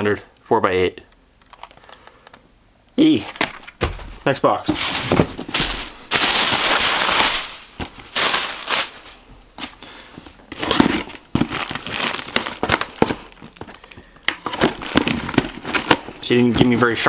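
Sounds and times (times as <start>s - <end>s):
packaging crinkling and rustling: 3.0s - 17.0s.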